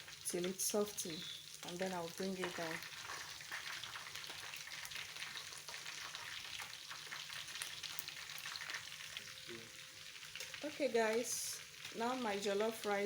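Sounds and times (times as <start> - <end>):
rice sizzling in a pot: 0.0 - 13.0.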